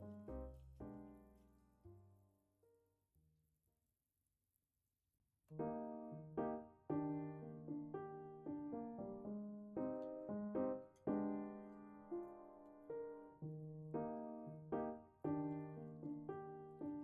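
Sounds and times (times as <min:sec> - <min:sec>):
slow piano music: 0:00.0 - 0:02.2, 0:05.5 - 0:17.0.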